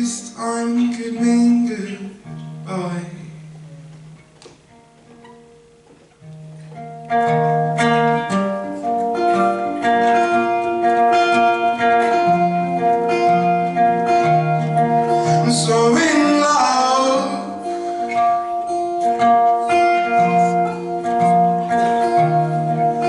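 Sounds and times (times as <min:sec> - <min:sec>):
plucked string accompaniment: 0:00.1 - 0:23.0.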